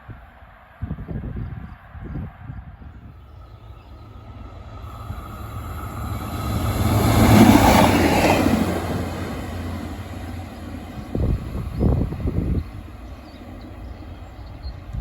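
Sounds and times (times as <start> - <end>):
train passing: 2.7 - 15.0.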